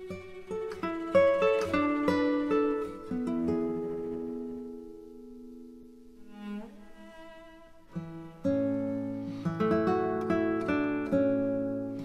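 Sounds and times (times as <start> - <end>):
plucked string melody: 0.0 - 12.0.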